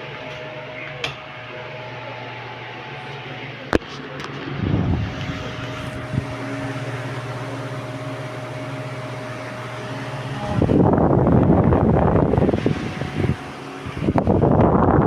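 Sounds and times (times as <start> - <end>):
electric fan hum: 0.0 - 15.0.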